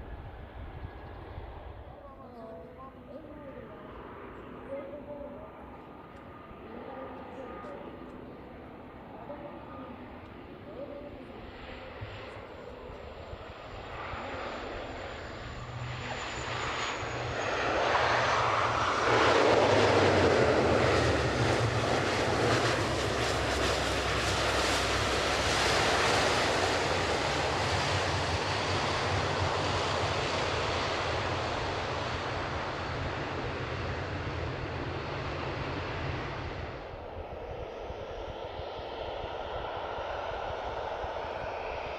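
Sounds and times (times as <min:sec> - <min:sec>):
turboprop plane engine drone: 0:00.0 - 0:41.9.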